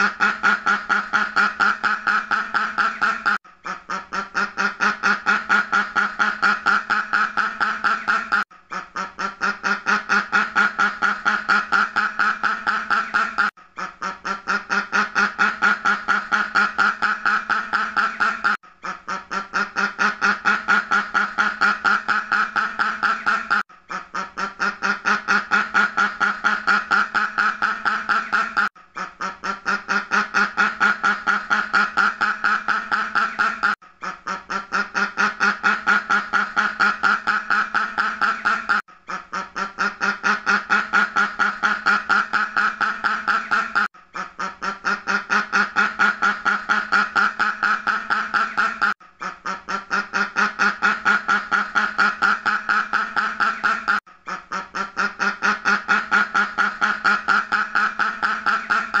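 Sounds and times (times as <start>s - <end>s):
duck quacking: 0.0s - 59.0s.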